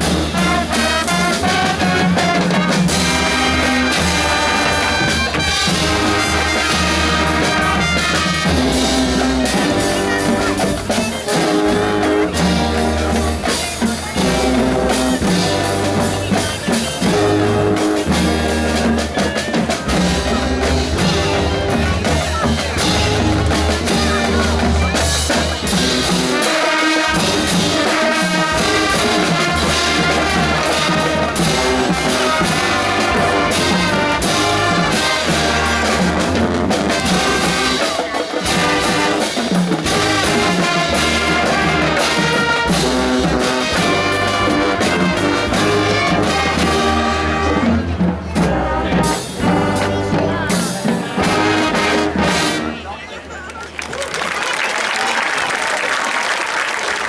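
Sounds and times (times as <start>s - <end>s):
brass playing held chords: 0.0s - 19.2s, 22.8s - 52.9s.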